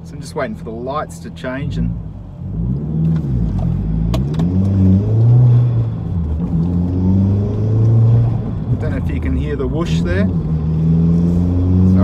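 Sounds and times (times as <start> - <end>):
car engine from inside cabin: 0.0 - 12.0.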